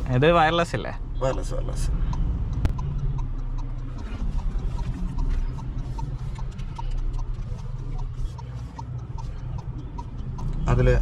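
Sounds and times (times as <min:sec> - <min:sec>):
steady low hum: 0:00.0 - 0:11.0
turn signal ticking: 0:00.0 - 0:11.0.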